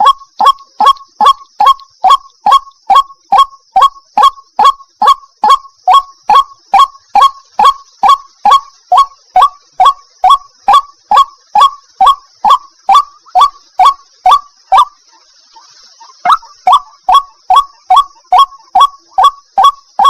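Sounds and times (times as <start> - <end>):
bird harsh repeated calls: 0.0 - 20.0
steady high hiss: 0.0 - 20.0.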